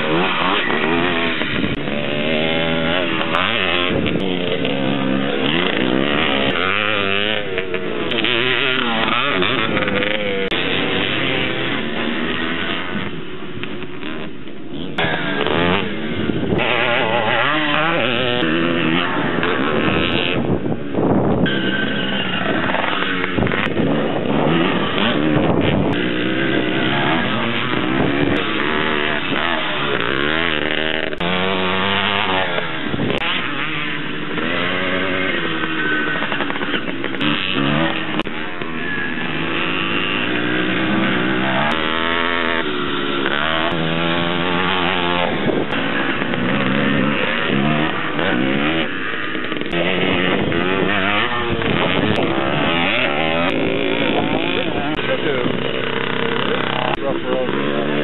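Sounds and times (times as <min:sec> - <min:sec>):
distant motorcycle engines: 0:00.0 - 0:58.0
motorcycles revving past: 0:00.0 - 0:58.0.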